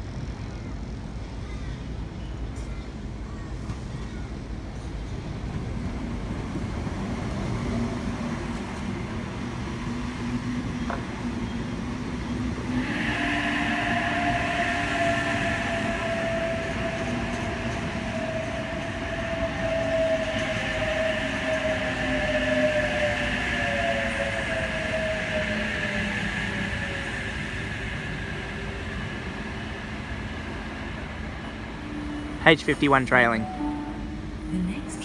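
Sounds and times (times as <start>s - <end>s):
electric train rumbling: 0.0s - 35.0s.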